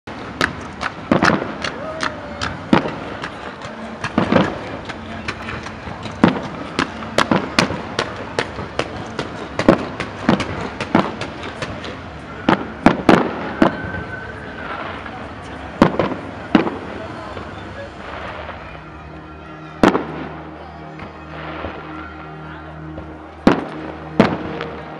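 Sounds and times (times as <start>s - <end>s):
fireworks bangs and pops: 0.1s - 18.8s, 19.8s - 21.9s, 23.0s - 24.9s.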